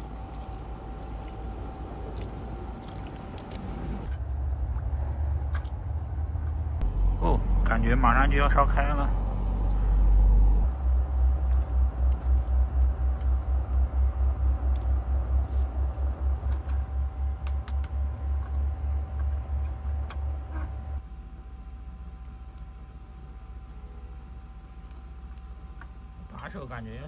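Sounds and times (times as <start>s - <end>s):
faint fire crackles: 0.0s - 27.0s
steady hum: 0.0s - 27.0s
stove fire pulsing rumble: 0.0s - 27.0s.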